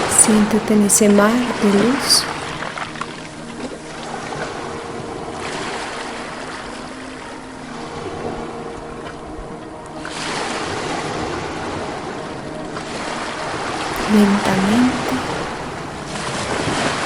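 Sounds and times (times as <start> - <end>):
ocean waves washing in: 0.0 - 8.6, 10.1 - 17.0.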